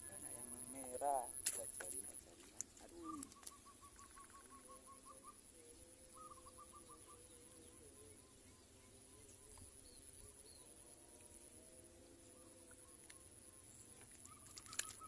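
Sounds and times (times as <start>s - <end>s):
bird calling in repeated notes: 0.0s - 9.7s, 12.3s - 15.0s.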